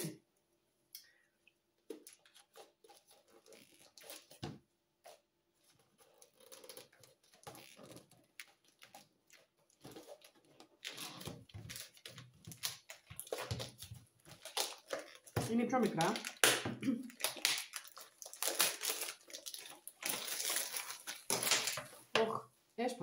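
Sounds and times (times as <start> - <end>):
plastic wrap rustling: 2.0 - 22.1.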